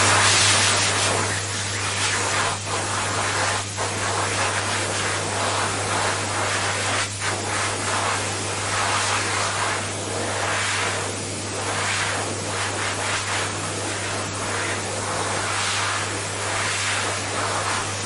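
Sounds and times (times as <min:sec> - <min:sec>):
electric hand dryer blowing: 0:00.0 - 0:18.0.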